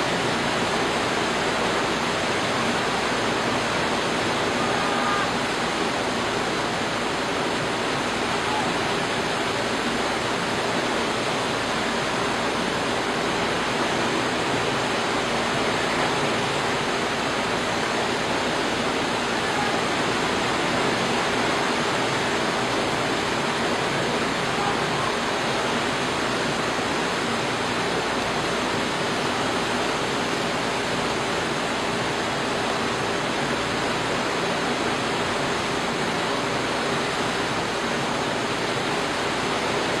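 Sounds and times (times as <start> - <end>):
heavy water rushing: 0.0 - 40.0.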